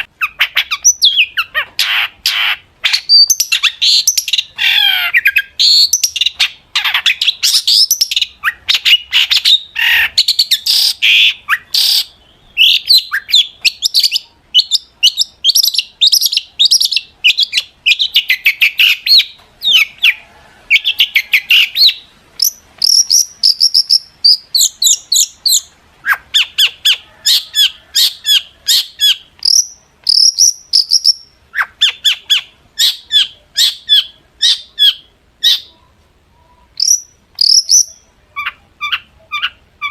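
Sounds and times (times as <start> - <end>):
bird singing chattering notes: 0.0 - 20.1, 20.8 - 35.7, 36.8 - 39.9.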